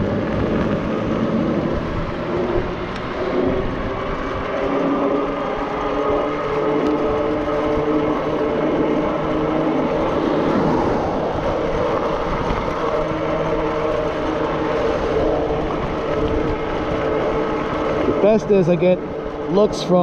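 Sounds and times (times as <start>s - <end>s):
electric motor humming: 0.0s - 20.0s
wind buffeting microphone: 0.0s - 20.0s.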